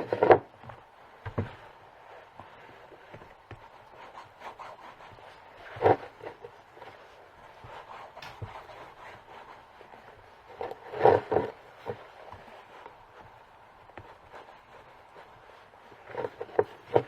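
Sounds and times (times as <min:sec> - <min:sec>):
knocks and scrapes on boot: 0:00.0 - 0:17.0.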